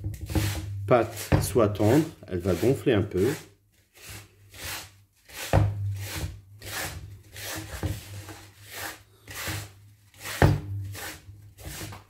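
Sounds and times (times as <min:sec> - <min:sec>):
hands rubbing semolina in bowl: 0:00.3 - 0:12.0.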